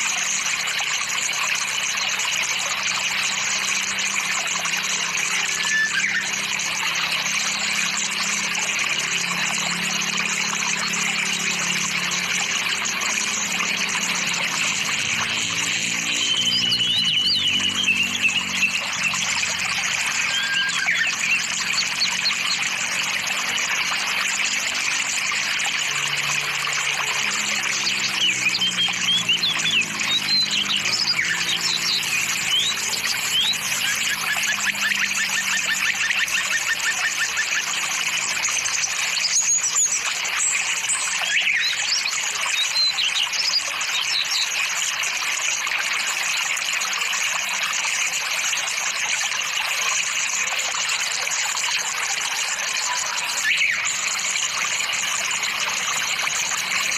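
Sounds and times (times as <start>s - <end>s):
flowing water rushing: 0.0s - 56.9s
bird chirps: 1.6s - 44.6s, 52.5s - 56.9s.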